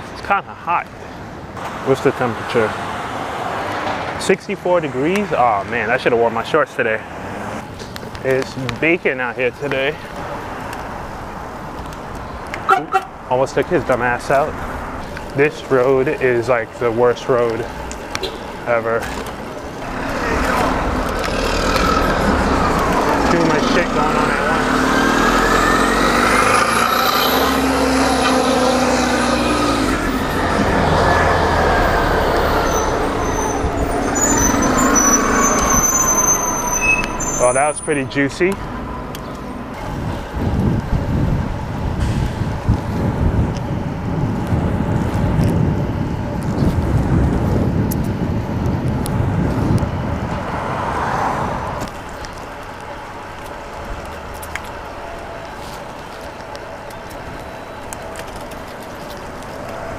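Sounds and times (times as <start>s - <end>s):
road noise rush: 0.0s - 59.9s
street traffic: 0.0s - 59.9s
truck and bus engines passing: 1.0s - 59.9s
wind rumbling on microphone: 9.4s - 37.3s, 38.6s - 59.9s.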